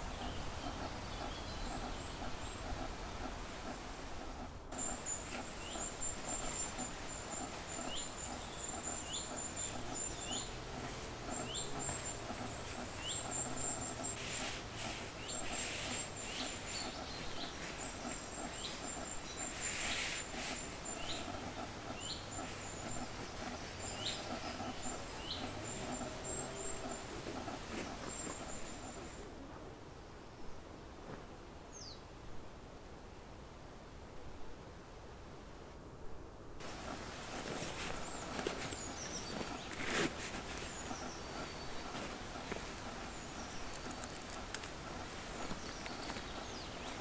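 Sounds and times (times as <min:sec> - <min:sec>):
small birds chirping: 0:00.0 - 0:29.3, 0:36.6 - 0:47.0.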